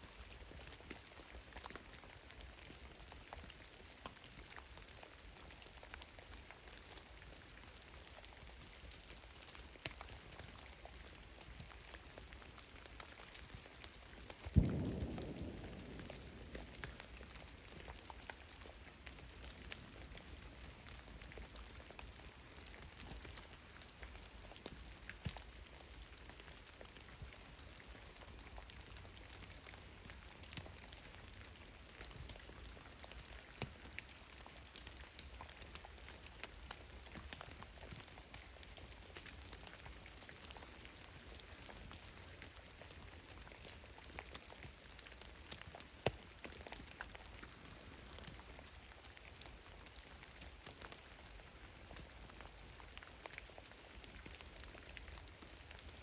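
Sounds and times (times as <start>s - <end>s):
water drops pattering on snow: 0.1s - 56.0s.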